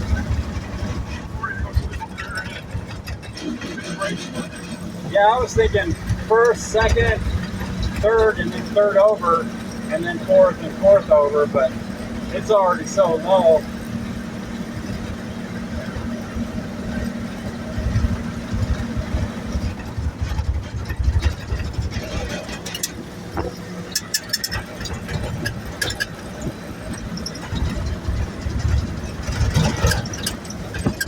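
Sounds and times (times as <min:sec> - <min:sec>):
sharp rattles and knocks: 0:00.0 - 0:31.0
truck engine running: 0:00.0 - 0:31.0.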